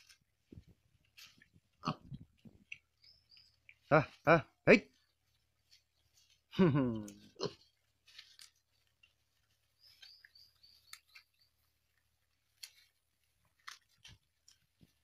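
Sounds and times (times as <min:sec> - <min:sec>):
pigs munching leaves: 0:00.0 - 0:15.0.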